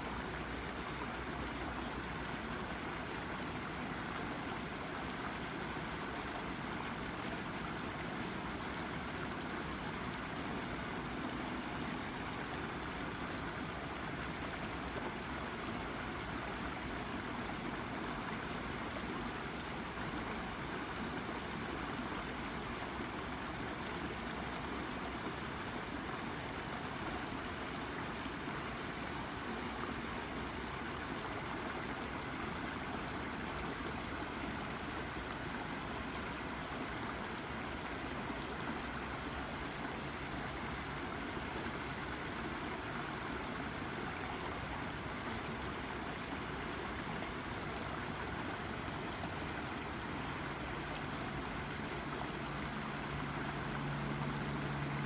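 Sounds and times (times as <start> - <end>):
brook babbling over rock: 0.0 - 55.0.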